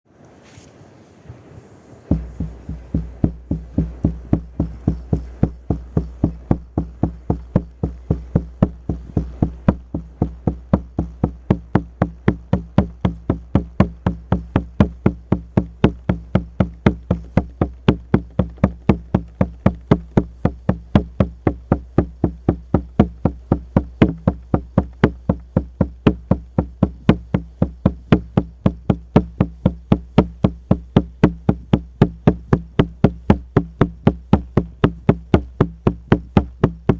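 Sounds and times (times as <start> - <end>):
frame drum beaten: 2.1 - 36.9.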